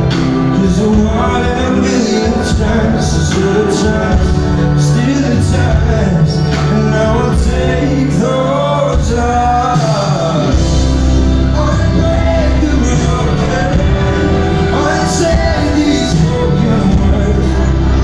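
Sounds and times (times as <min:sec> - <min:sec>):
live band playing rock ballad: 0:00.0 - 0:18.0
man singing: 0:00.0 - 0:18.0.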